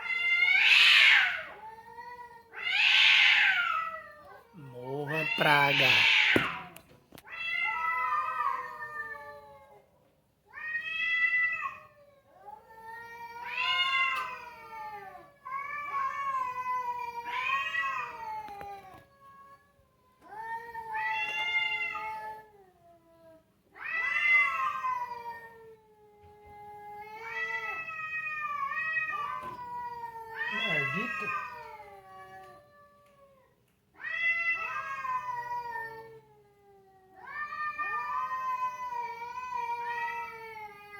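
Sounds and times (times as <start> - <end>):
cats yowling: 0.0 - 9.9, 10.5 - 40.9.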